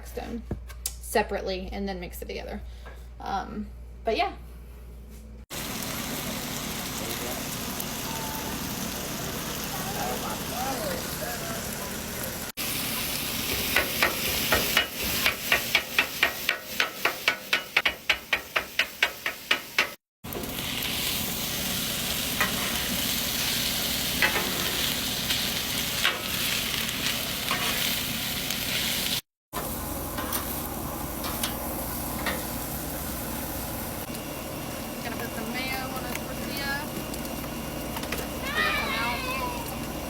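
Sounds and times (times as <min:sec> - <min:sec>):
food sizzling on griddle: 0:05.5 - 0:40.0.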